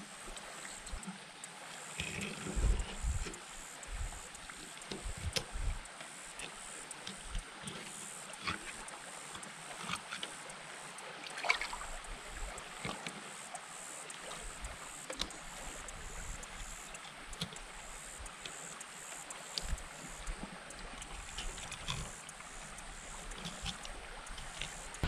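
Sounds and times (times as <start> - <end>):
water lapping against boat hull: 0.1 - 25.0.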